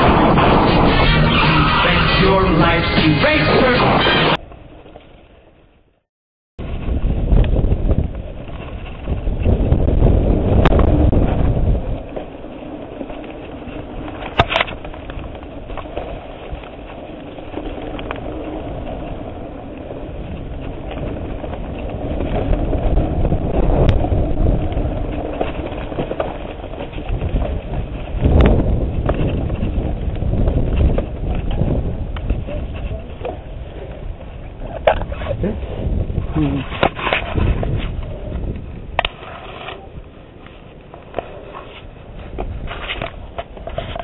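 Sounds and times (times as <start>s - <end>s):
wind on microphone: 0.0s - 3.7s, 6.6s - 44.0s
tyres rumbling on dirt: 6.6s - 44.0s.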